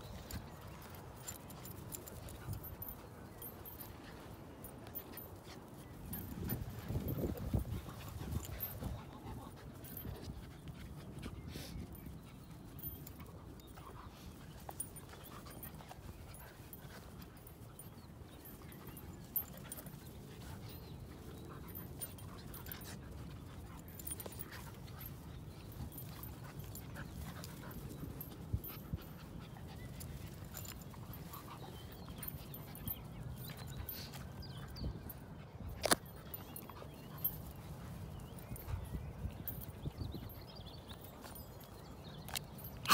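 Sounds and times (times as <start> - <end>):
dogs panting: 0.0 - 42.9.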